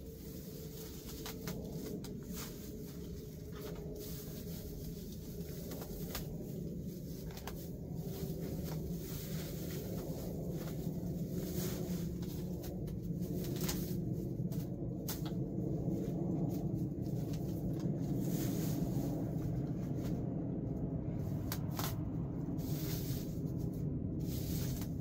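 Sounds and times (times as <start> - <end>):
dry grass pulled up by hand: 0.0 - 25.0
low rumble: 0.0 - 25.0.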